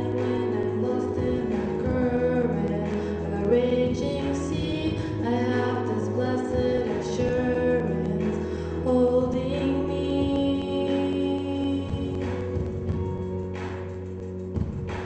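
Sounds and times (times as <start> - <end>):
woman singing: 0.0 - 13.0
instrumental accompaniment: 0.0 - 15.0
low bass notes: 0.0 - 15.0.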